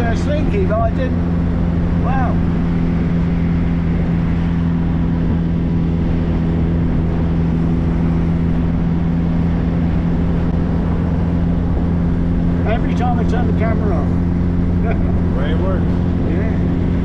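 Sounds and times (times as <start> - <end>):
car engine droning: 0.0 - 17.0
road and wind noise: 0.0 - 17.0.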